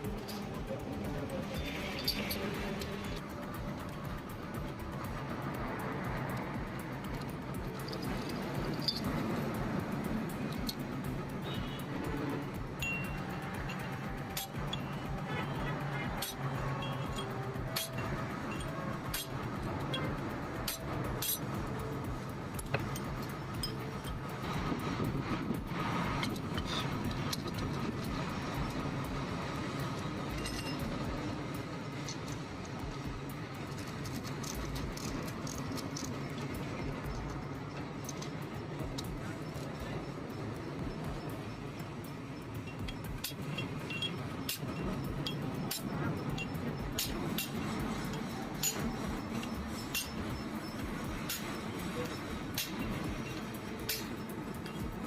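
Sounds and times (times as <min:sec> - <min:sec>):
steel tools clinking: 0:00.0 - 0:05.5, 0:06.1 - 0:55.0
low vehicle rumble: 0:00.0 - 0:55.0.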